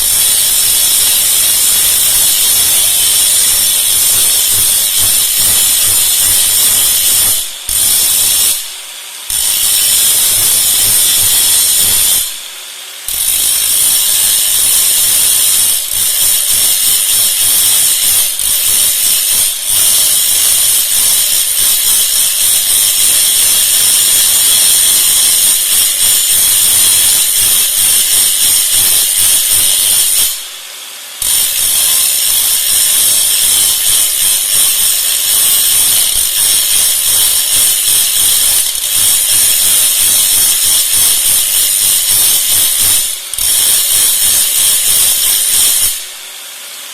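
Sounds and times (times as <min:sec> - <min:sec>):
power tool working metal: 0:00.0 - 0:46.9.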